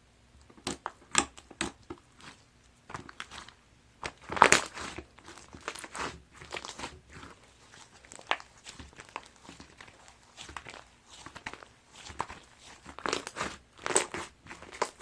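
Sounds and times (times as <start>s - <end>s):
hands squishing crunchy slime: 0.5s - 15.0s.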